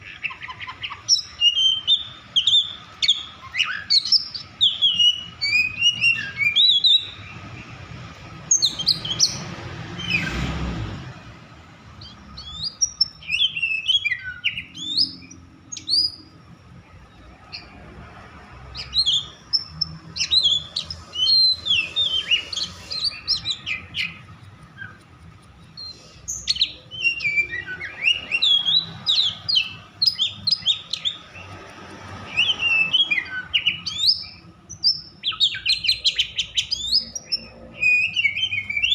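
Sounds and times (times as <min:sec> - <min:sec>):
bird singing whistled notes: 0:00.0 - 0:07.4, 0:08.5 - 0:10.4, 0:12.0 - 0:16.4, 0:18.7 - 0:31.5, 0:32.3 - 0:38.9.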